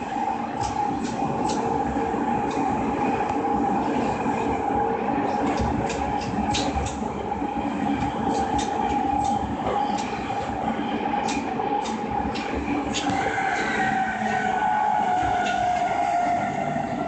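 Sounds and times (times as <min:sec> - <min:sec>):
electric train whine: 0:00.0 - 0:17.0.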